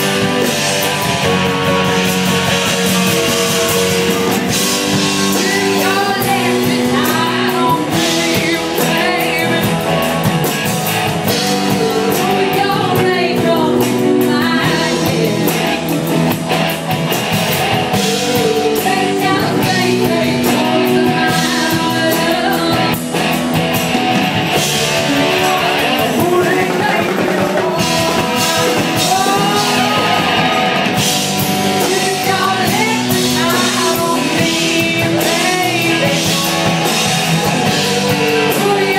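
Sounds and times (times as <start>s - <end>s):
rock band playing: 0.0s - 38.9s
person singing lead vocal: 2.8s - 16.5s, 17.8s - 23.6s, 24.4s - 38.9s.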